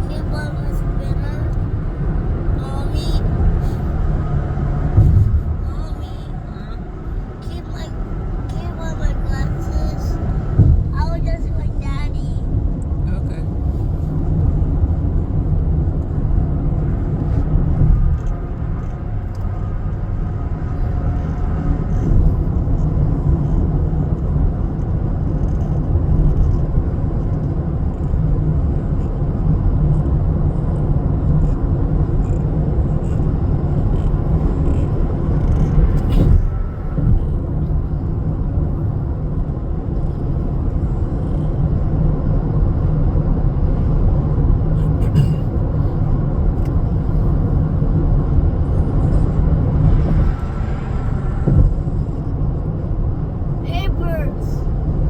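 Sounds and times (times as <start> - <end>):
truck engine rumbling: 0.0 - 24.4, 30.8 - 55.0
road noise: 0.0 - 55.0.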